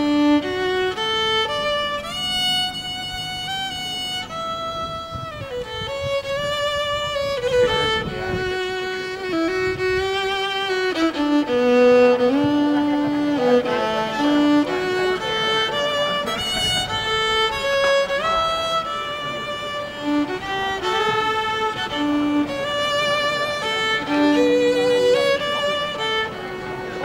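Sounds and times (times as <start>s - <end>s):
violin melody: 0.0s - 27.0s.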